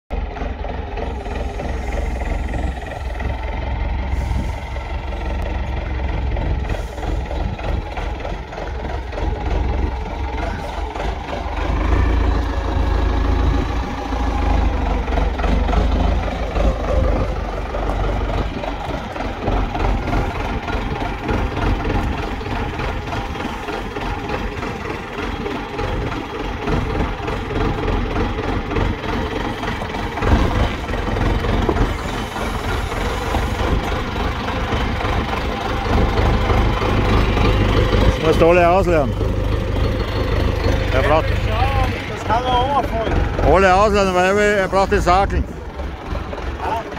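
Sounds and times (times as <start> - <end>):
forklift engine running: 0.1 - 46.9.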